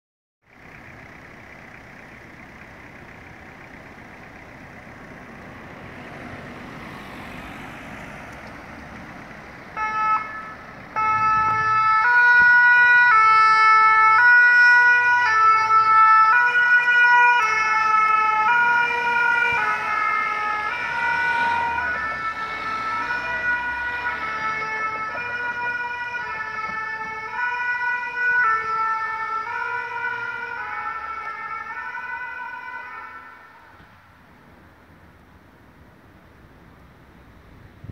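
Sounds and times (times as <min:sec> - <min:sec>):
two-tone ambulance siren: 0:00.4 - 0:34.2
traffic and engine noise: 0:00.4 - 0:37.9.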